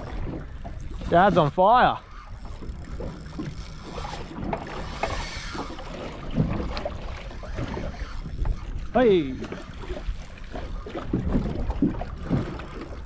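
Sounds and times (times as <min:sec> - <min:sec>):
sea noise: 0:00.0 - 0:13.0
wind: 0:00.0 - 0:13.0.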